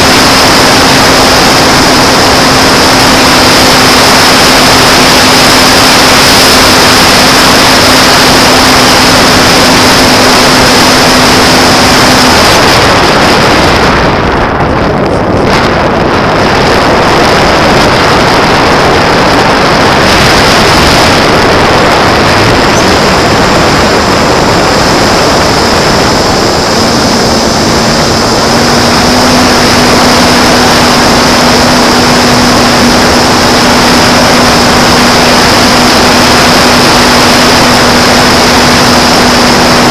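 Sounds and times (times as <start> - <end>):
electric motor and propeller hum: 0.0 - 39.9
loud wind rush: 0.0 - 39.9.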